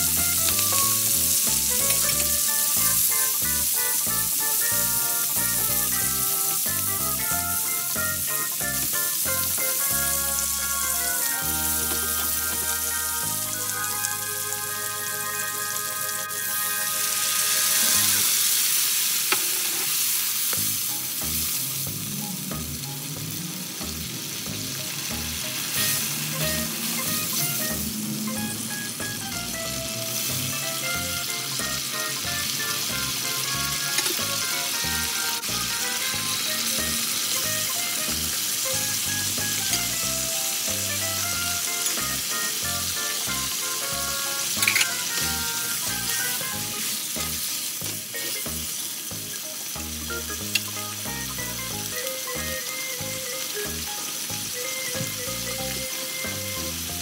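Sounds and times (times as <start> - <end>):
soft background music: 0.0 - 18.6, 20.5 - 57.0
food sizzling in a wok: 0.0 - 57.0.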